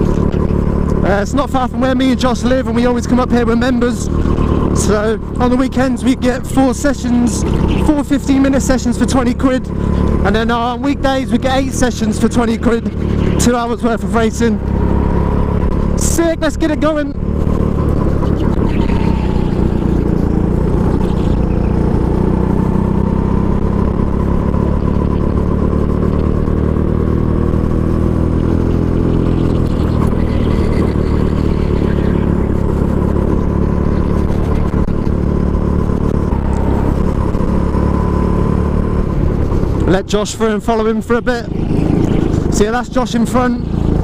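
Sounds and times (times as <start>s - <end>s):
go-kart engine running: 0.0s - 44.0s.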